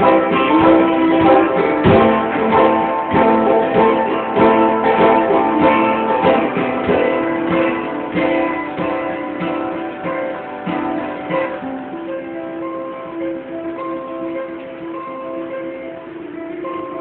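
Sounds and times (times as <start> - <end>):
strummed guitar chords: 0.0 - 17.0.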